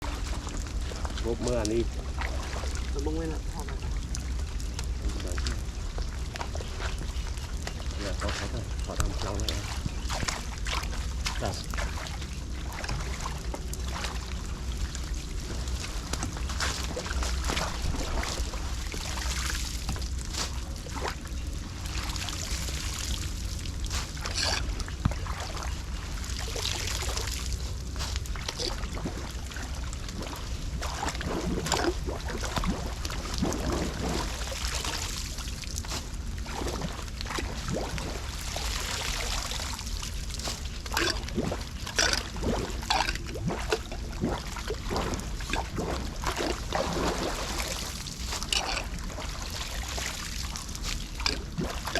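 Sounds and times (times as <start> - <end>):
low rumble: 0.0 - 51.9
water sloshing at a drain: 0.0 - 51.9.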